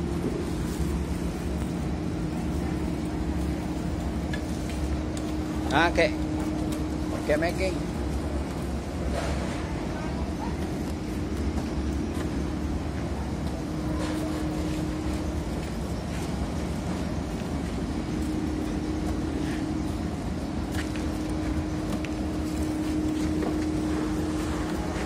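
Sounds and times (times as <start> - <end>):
low mechanical rumble and hum: 0.0 - 25.0.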